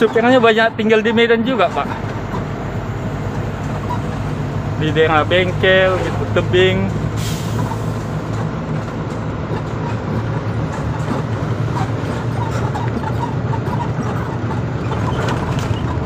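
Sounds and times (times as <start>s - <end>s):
truck engine running: 0.0s - 16.0s
tyre and road noise: 0.0s - 16.0s.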